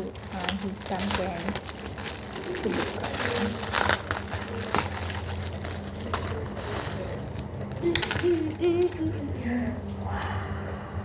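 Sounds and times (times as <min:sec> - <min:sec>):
packaging handled: 0:00.0 - 0:09.4
steady low hum: 0:00.0 - 0:11.0.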